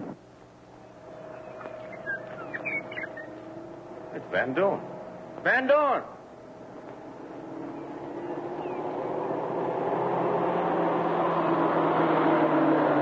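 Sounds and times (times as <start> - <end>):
car engine running: 0.9 - 5.4, 6.2 - 13.0.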